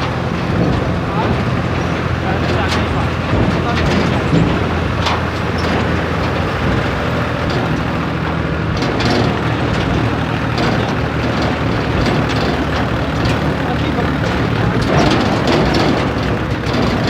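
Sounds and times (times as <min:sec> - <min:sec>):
short knocks or rattles: 0:00.0 - 0:17.0
tractor engine droning: 0:00.0 - 0:17.0.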